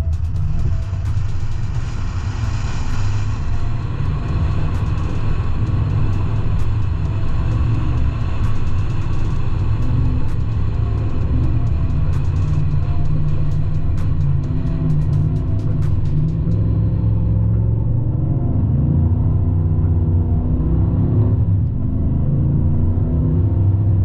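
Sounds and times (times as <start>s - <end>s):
pickup engine and exhaust rumble: 0.0s - 24.0s.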